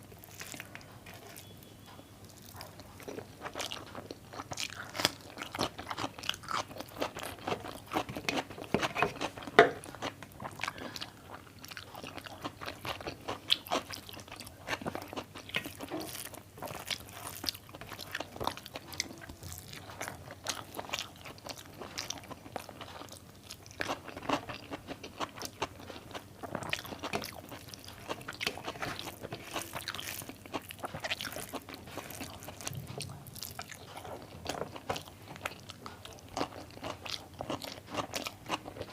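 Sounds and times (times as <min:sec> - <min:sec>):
close chewing and crunchy bites: 0:00.0 - 0:01.6, 0:02.2 - 0:38.9.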